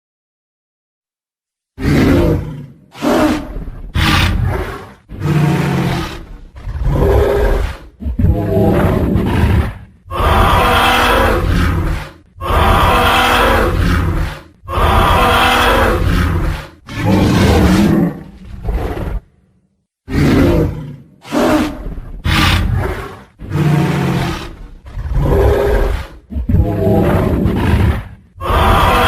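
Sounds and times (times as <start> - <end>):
dinosaur roars: 1.8 - 19.4, 20.1 - 29.0.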